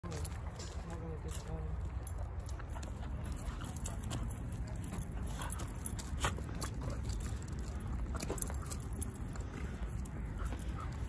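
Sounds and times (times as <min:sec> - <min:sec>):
dogs scuffling: 0:00.0 - 0:11.0.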